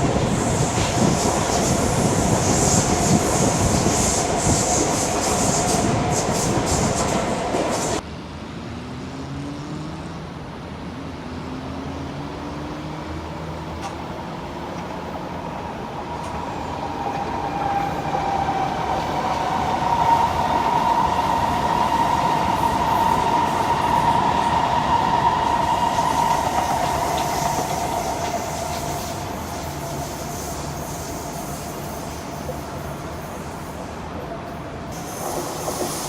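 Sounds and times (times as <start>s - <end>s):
train passing with high whine: 0.0s - 36.0s.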